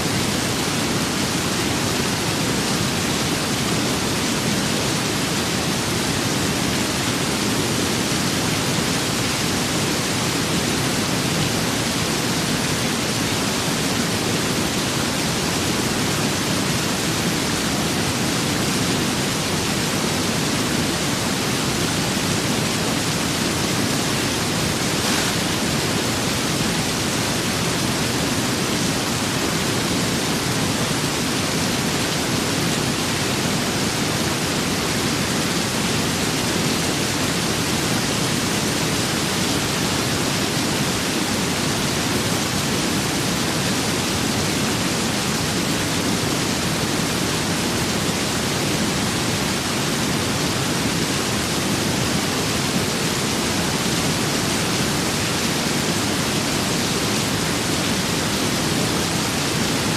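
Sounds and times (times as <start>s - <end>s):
steady rain and wind hiss: 0.0s - 59.9s.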